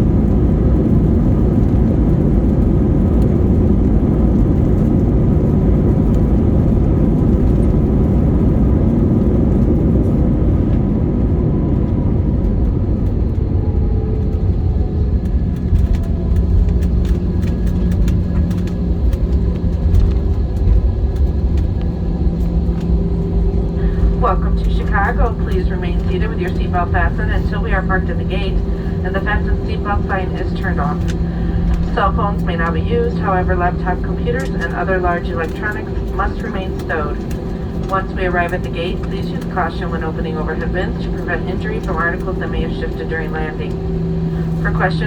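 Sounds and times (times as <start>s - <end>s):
jet engines and wheels rumbling: 0.0s - 45.0s.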